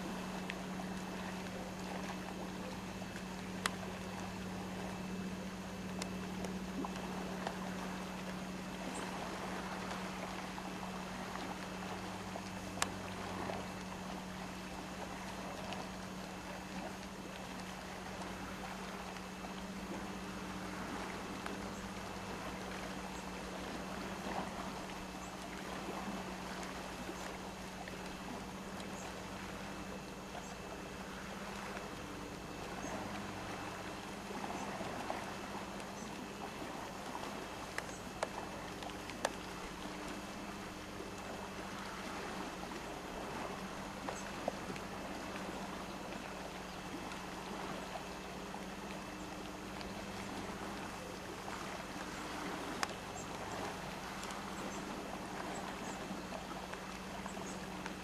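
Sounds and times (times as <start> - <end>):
low motor hum: 0.0 - 58.0
water lapping and splashing: 0.0 - 58.0.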